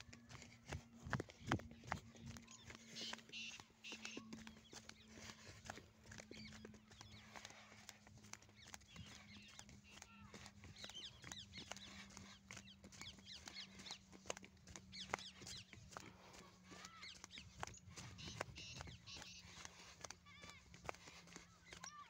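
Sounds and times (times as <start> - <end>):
footsteps on dirt track: 0.0 - 22.0
small birds chirping: 0.0 - 22.0.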